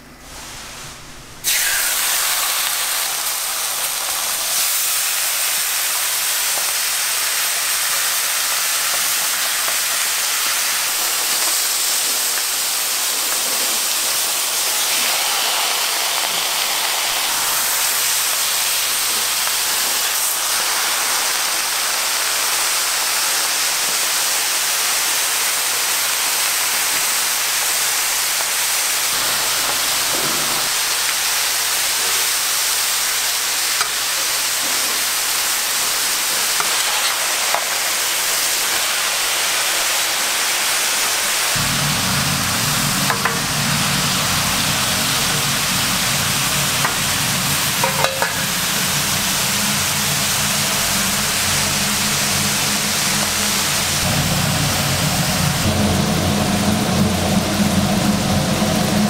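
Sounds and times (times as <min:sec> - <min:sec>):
bacon sizzling on a griddle: 0:01.4 - 0:55.6.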